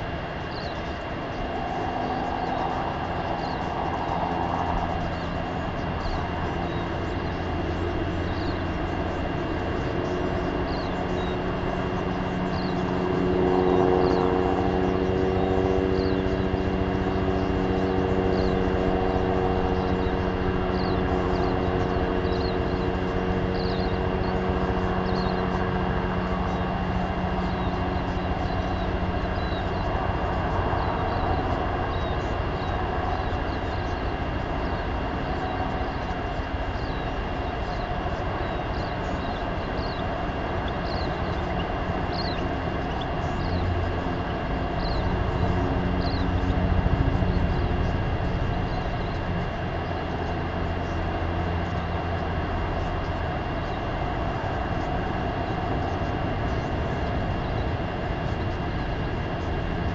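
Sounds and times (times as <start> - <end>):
distant engine droning: 0.0 - 59.9
outdoor noise: 0.0 - 59.9.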